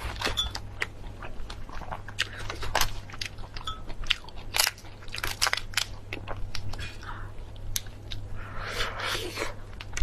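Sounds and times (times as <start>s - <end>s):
person chewing and crunching food: 0.0s - 10.0s.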